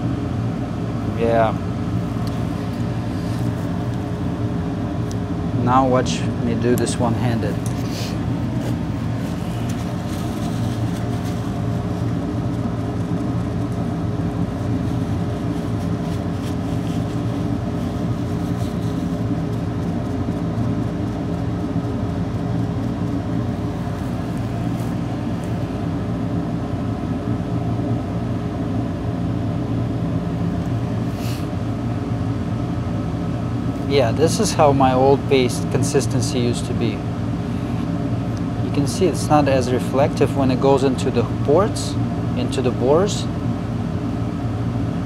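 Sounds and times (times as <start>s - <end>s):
electric fan humming: 0.0s - 45.0s.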